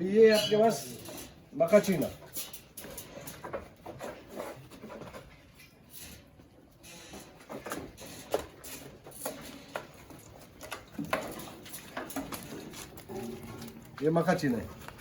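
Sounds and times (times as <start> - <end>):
goat hooves tapping and scuffling: 0.0 - 15.0.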